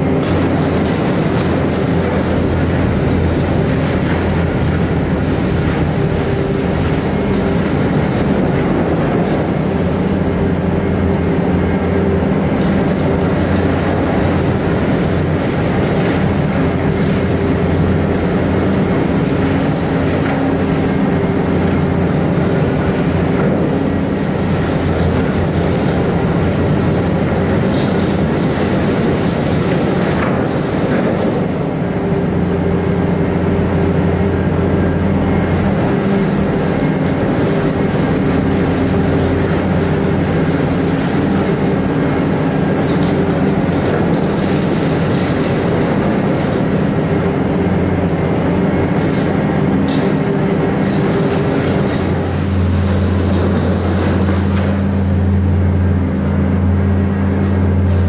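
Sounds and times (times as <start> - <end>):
machine running hum: 0.0 - 58.0.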